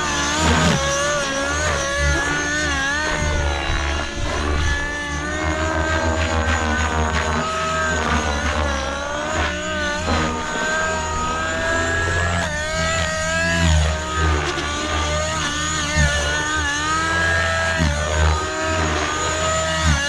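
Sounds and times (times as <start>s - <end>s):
rc helicopter engine and rotor: 0.0s - 20.0s.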